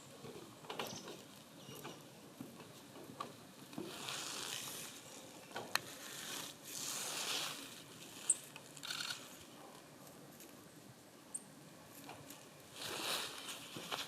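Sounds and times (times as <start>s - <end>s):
dry grass and leaves rustling: 0.1s - 14.0s.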